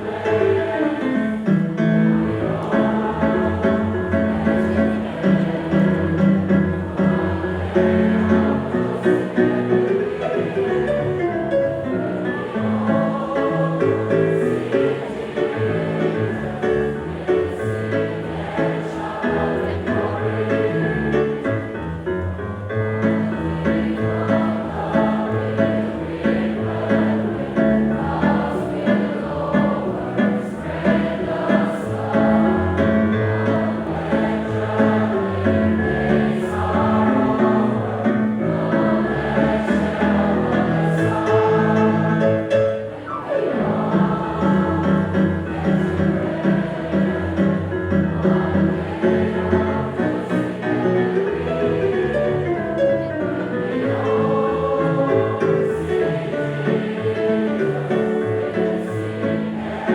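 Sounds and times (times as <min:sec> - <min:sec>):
group singing a hymn: 0:00.0 - 0:22.3, 0:22.9 - 0:59.9.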